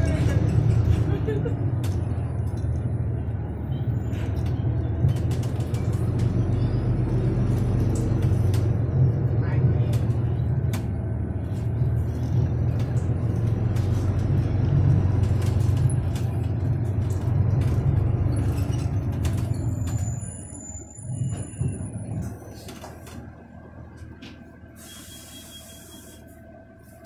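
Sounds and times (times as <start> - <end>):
bus drivetrain rumble: 0.0 - 27.0
road noise: 0.0 - 27.0.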